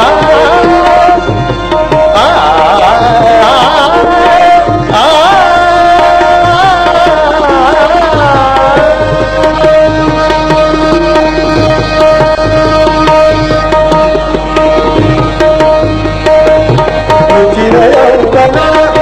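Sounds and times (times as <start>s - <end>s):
tabla strokes: 0.0s - 19.0s.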